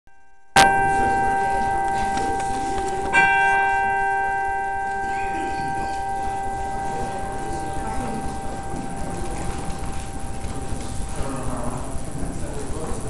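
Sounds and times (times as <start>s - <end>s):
bell ringing: 0.2s - 12.5s.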